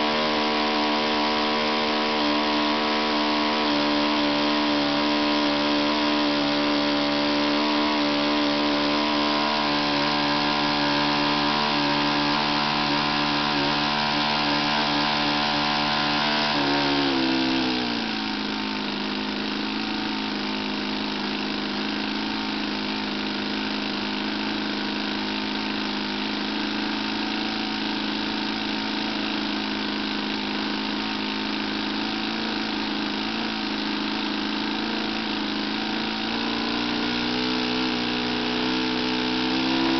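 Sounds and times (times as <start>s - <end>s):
model airplane engine running: 0.0s - 39.9s.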